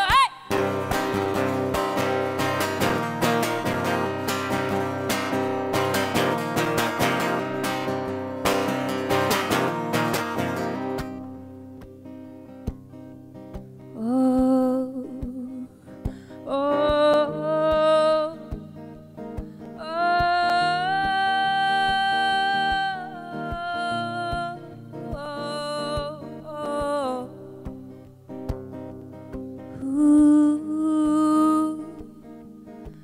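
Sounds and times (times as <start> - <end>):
woman singing: 0.0 - 11.2, 13.9 - 28.1, 29.6 - 33.0
picked acoustic guitar: 0.0 - 33.0.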